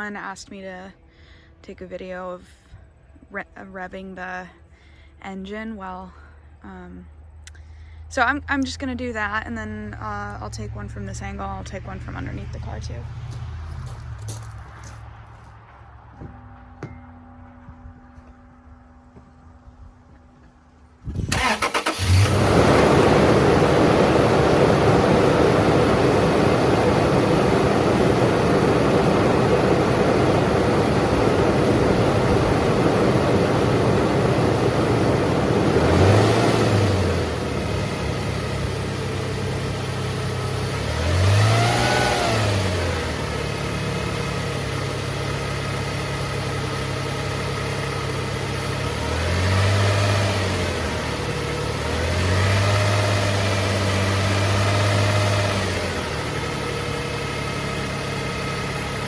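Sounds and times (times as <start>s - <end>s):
car engine idling and revving: 6.7s - 59.0s.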